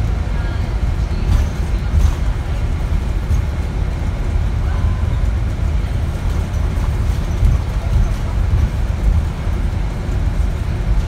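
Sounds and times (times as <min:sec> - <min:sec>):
bus engine low rumble: 0:00.0 - 0:11.0
road noise: 0:00.0 - 0:11.0.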